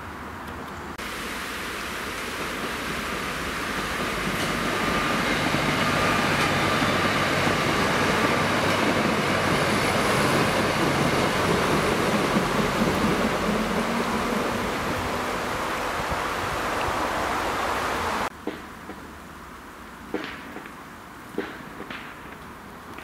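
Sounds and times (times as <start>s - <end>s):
train crossing a railway bridge: 0.0s - 19.0s.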